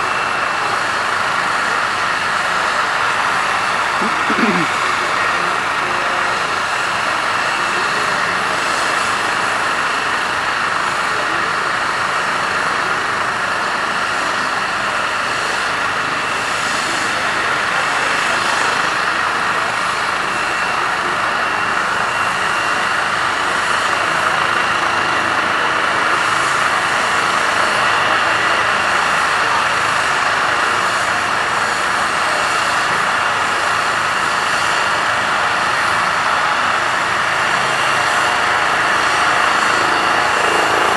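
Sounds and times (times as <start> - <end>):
helicopter rotor rush: 0.0 - 40.9
helicopter turbine whine: 0.0 - 40.9.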